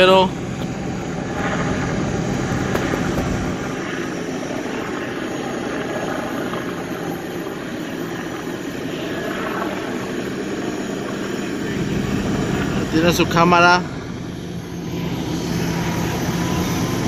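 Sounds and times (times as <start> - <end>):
helicopter drone: 0.0 - 17.0.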